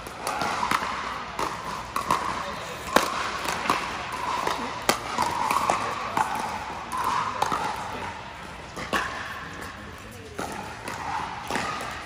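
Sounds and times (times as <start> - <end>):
paddles hitting plastic ball: 0.0 - 9.3, 9.9 - 12.0
murmur of voices: 0.2 - 12.0.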